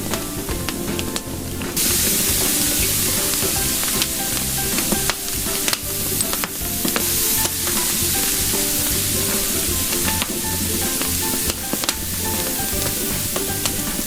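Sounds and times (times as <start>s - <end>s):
background music: 0.0s - 14.0s
meat sizzling: 1.4s - 14.0s.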